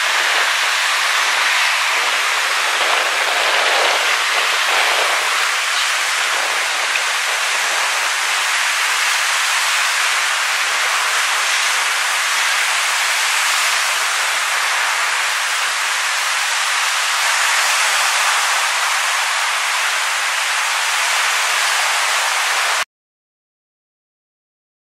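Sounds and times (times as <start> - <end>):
waves washing over pebble shore: 0.0 - 22.8.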